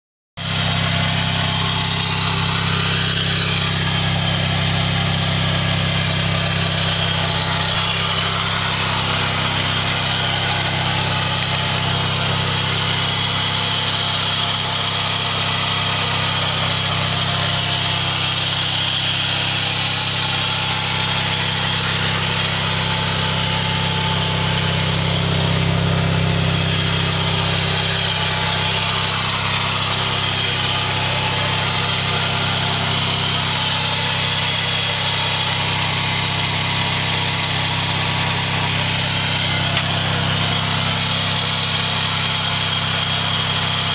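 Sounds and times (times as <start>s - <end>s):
riding mower engine running: 0.4s - 43.9s.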